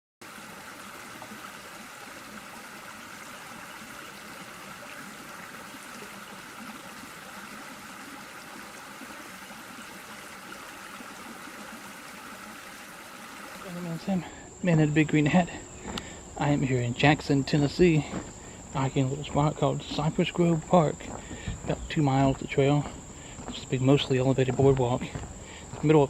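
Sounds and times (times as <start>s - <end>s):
insects droning: 0.2s - 26.0s.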